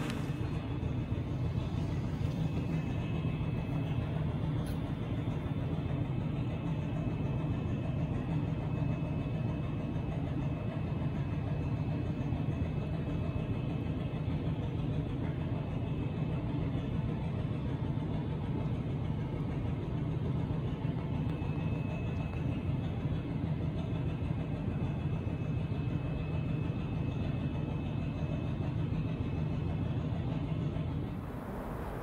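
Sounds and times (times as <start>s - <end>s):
faint high whine: 0.0s - 14.8s, 20.6s - 32.0s
locomotive low hum and rumble: 0.0s - 32.0s.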